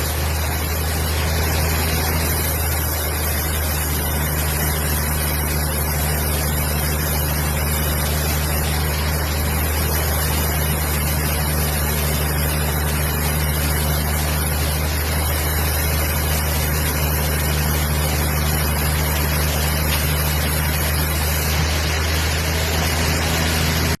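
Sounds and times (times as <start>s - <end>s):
wood-cutting machine humming: 0.0s - 24.0s.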